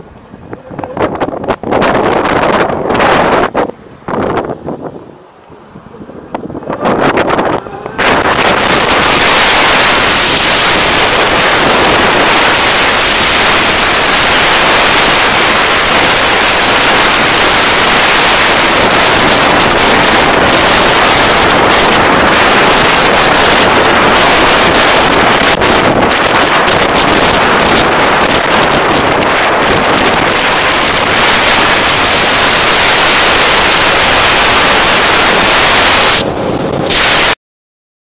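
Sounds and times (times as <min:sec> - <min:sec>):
wind rush on microphone: 0:00.0 - 0:37.4.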